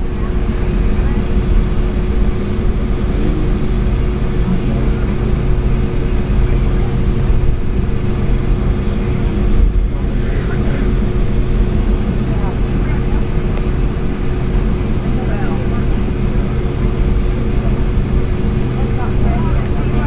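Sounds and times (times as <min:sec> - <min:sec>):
jet engine rumble in cabin: 0:00.0 - 0:20.0
steady hum: 0:00.0 - 0:20.0.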